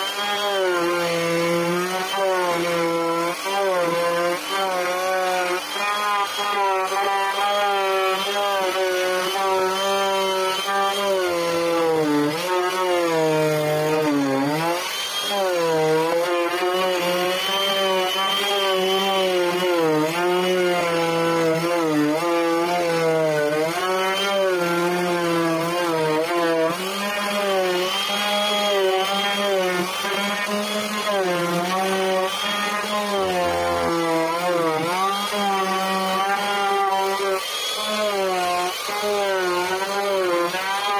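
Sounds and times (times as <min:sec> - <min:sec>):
electric carving tool whining: 0:00.0 - 0:40.9.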